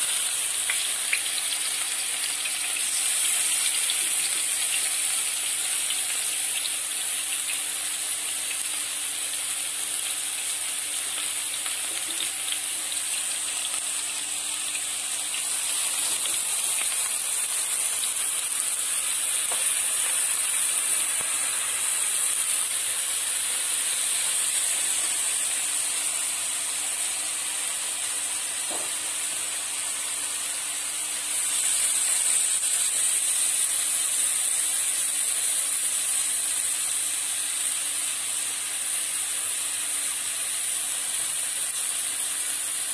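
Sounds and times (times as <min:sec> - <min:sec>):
chicken sizzling in oil: 0:00.0 - 0:42.9.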